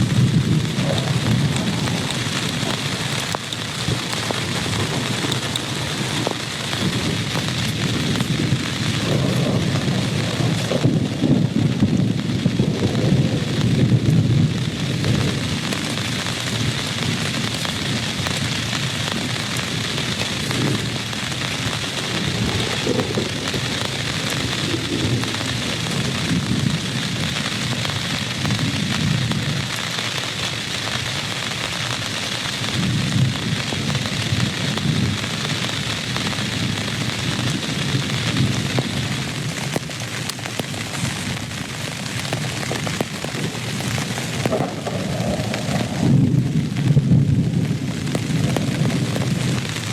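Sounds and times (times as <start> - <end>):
heavy rain: 0.0 - 49.9
thunder rumbling: 0.0 - 49.9.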